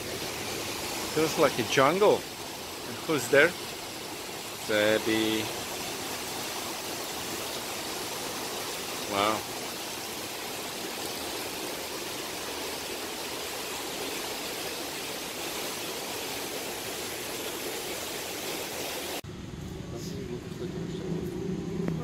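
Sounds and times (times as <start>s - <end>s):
stream rushing over rocks: 0.0s - 19.2s.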